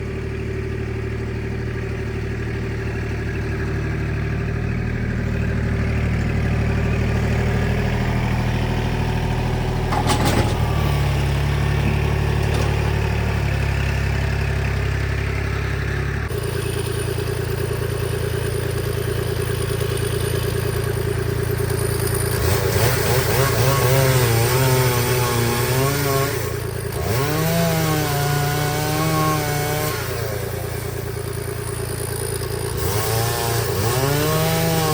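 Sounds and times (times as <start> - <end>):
engine running and revving: 0.0 - 34.9.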